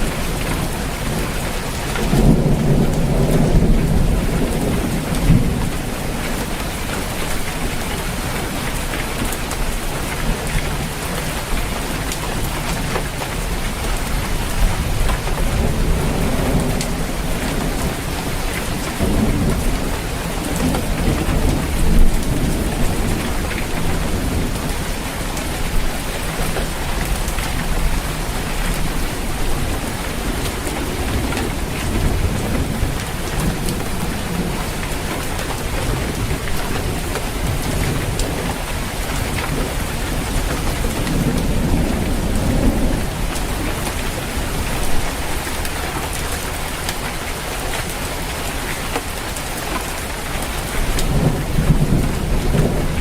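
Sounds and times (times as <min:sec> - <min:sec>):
heavy rain on a roof: 0:00.0 - 0:53.0
thunder rumbling: 0:00.0 - 0:53.0.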